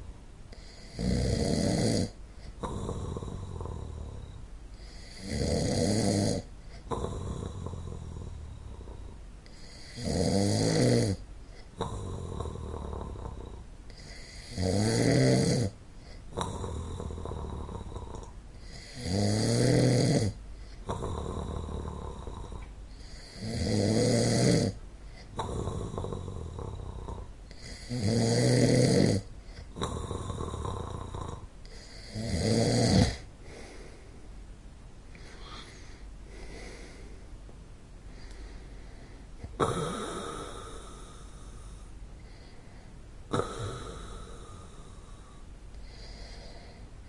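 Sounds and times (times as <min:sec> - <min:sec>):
quiet breathing: 0:00.0 - 0:10.3, 0:11.1 - 0:14.8, 0:15.6 - 0:28.3, 0:29.2 - 0:47.0
person snoring: 0:00.5 - 0:34.1, 0:35.1 - 0:37.2, 0:38.2 - 0:42.6, 0:43.3 - 0:46.8.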